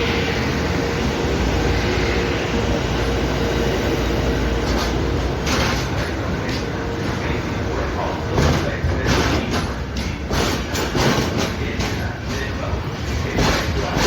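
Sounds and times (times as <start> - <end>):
locomotive hum: 0.0 - 14.0
train wheels rumbling on rail: 0.0 - 14.0.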